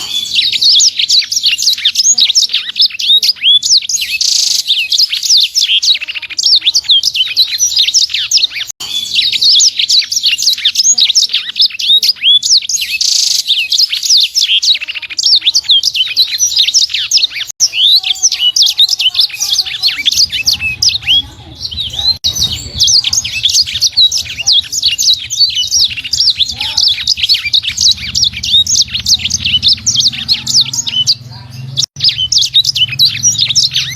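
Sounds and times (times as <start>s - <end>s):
songbird singing chirps and whistles: 0.0s - 33.9s.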